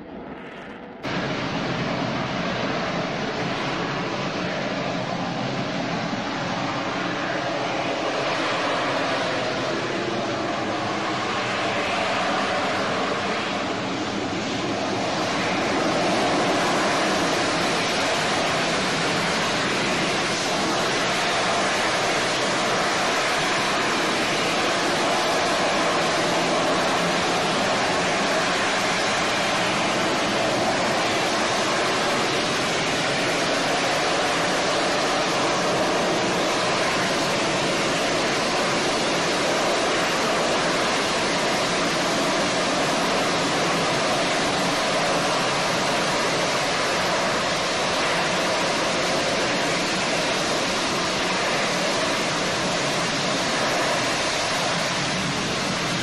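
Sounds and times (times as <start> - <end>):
jet engine rushing noise: 0.0 - 56.0.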